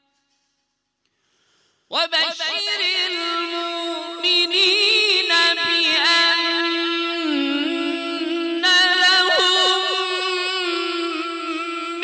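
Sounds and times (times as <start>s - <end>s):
man reciting melodically: 1.9s - 12.0s.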